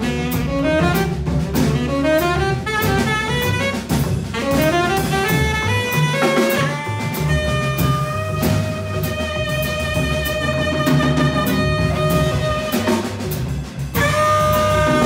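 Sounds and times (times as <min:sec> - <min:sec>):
double bass: 0:00.0 - 0:15.0
drum kit with cymbal strokes: 0:00.0 - 0:15.0
saxophone runs: 0:01.8 - 0:15.0.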